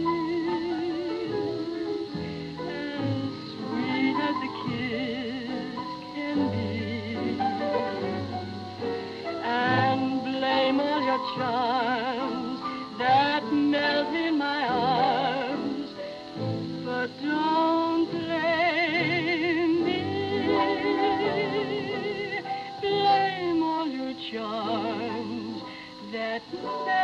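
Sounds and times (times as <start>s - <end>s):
orchestral accompaniment: 0.0s - 25.7s
woman singing a slow ballad: 0.0s - 27.0s.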